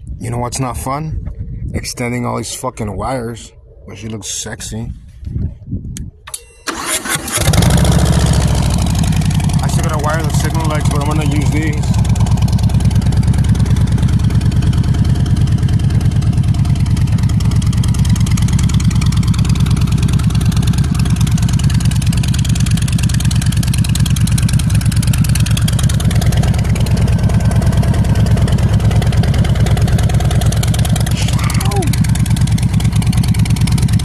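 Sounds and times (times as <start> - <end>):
engine idling: 6.7 - 34.0.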